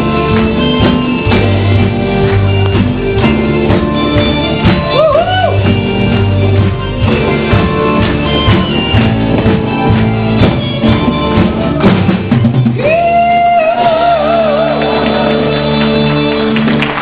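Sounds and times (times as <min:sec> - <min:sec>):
music with drums and guitar: 0:00.0 - 0:17.0.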